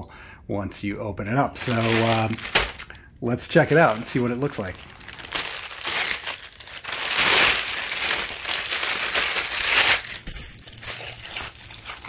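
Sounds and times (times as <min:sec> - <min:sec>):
plastic packaging crinkling: 0:01.6 - 0:02.9, 0:03.5 - 0:12.0.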